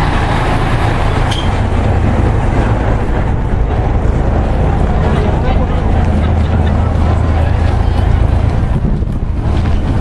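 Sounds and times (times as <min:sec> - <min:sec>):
loud low rumble: 0:00.0 - 0:10.0.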